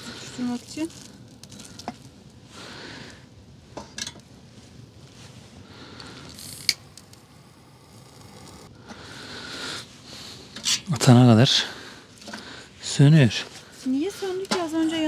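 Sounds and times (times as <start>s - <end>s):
campfire sizzling: 0.0s - 15.0s.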